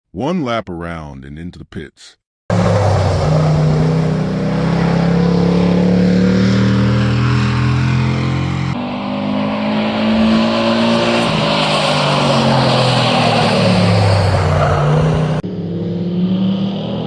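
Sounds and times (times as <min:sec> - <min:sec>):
racing engines passing: 0:02.5 - 0:17.0.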